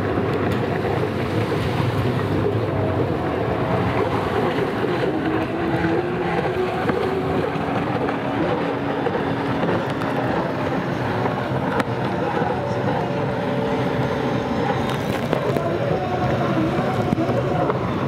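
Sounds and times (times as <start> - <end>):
jet ski engines racing: 0.0 - 18.0
rush of spray and wind: 0.0 - 18.0.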